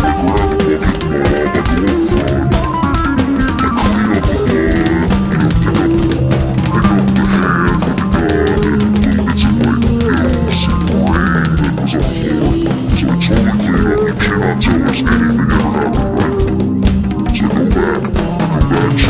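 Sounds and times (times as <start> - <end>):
bass guitar: 0.0 - 19.0
drum kit steady beat: 0.0 - 19.0
guitar: 0.0 - 19.0.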